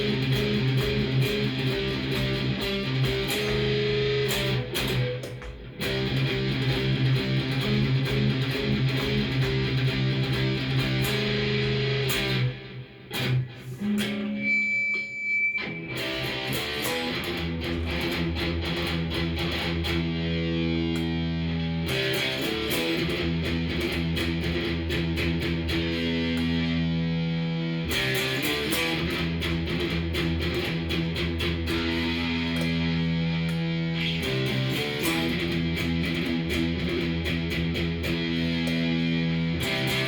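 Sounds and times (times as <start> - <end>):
electric guitar playing: 0.0 - 40.0.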